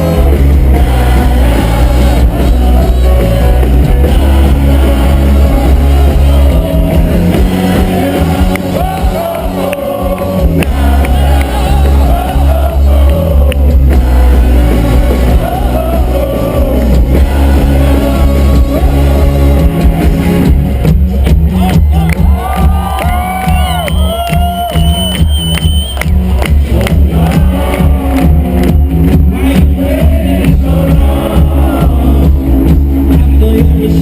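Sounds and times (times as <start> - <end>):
heavy bass live music: 0.0 - 34.0.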